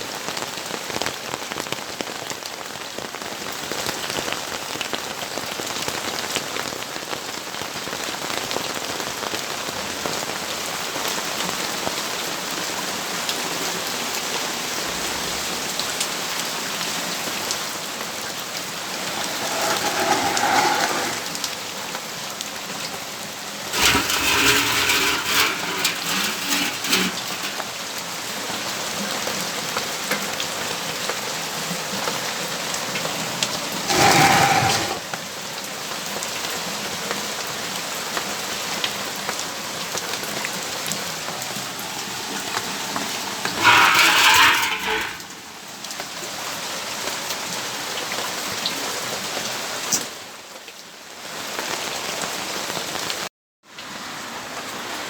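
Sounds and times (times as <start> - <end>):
steady rainfall: 0.0 - 43.8, 44.6 - 55.0.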